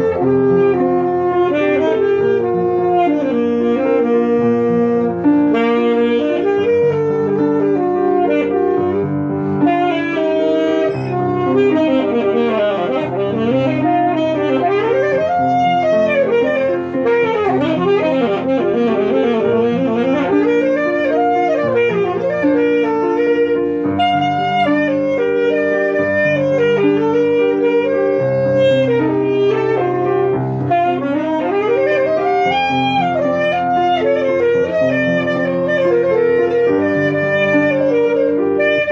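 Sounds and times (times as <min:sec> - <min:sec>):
alto saxophone melody: 0:00.0 - 0:38.9
grand piano accompaniment: 0:00.0 - 0:38.9.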